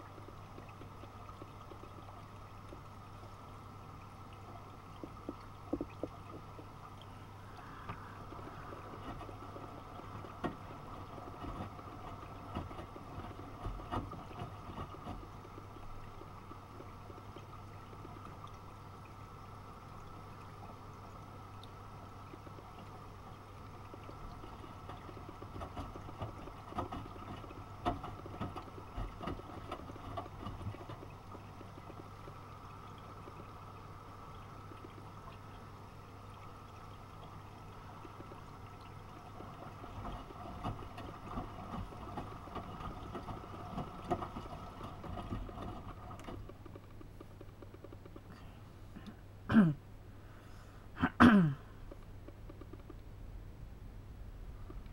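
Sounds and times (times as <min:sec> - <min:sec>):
water sloshing in washing machine: 0:00.0 - 0:18.9, 0:19.8 - 0:48.5
washing machine hum: 0:00.0 - 0:49.8.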